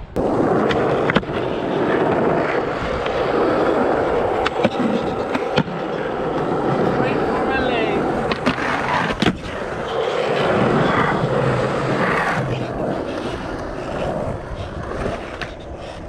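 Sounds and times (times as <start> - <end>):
wheels rolling on rough concrete: 0.0 - 16.0.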